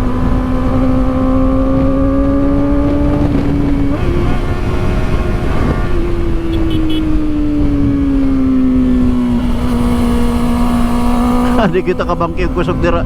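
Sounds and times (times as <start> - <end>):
heavy wind rush: 0.0 - 13.0
motorcycle engine at high revs: 0.0 - 13.0.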